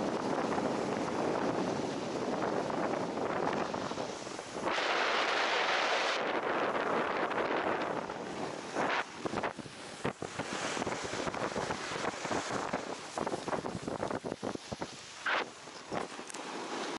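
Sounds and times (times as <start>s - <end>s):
wind buffeting microphone: 0.0s - 16.2s
snowboard carving through snow: 0.0s - 16.9s.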